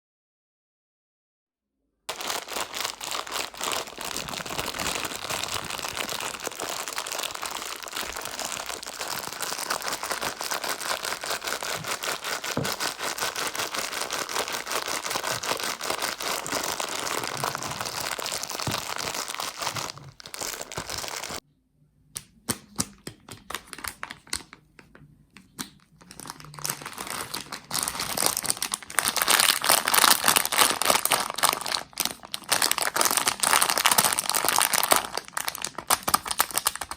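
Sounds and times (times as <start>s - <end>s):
plastic bags crinkling: 2.1s - 21.4s, 26.0s - 36.9s.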